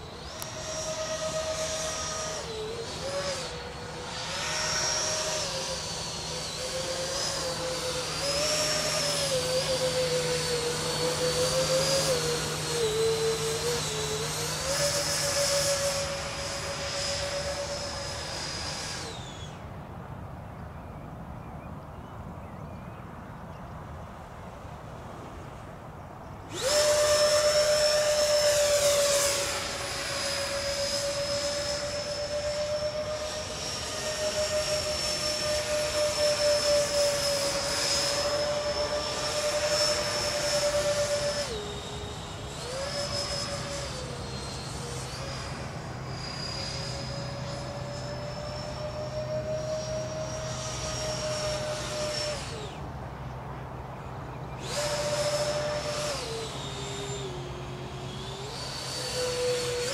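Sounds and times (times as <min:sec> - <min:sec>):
electric ducted fan whine: 0:00.0 - 0:59.9.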